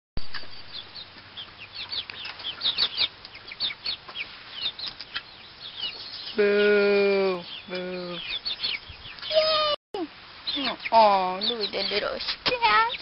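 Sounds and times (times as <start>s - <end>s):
chickens chirping: 0.2s - 13.0s.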